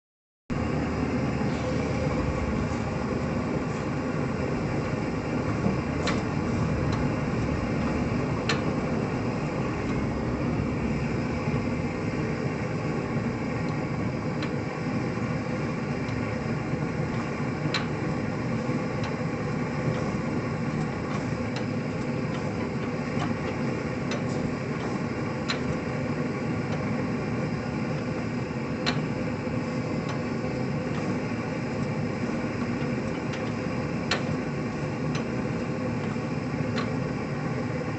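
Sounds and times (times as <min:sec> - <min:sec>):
stationary engine running: 0:00.6 - 0:37.9.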